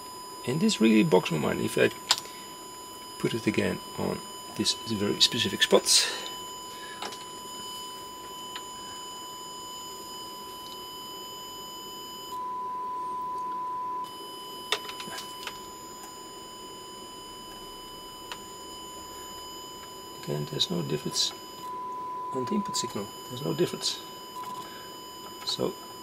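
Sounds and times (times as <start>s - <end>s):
distorted sine test tone: 0.0s - 26.0s.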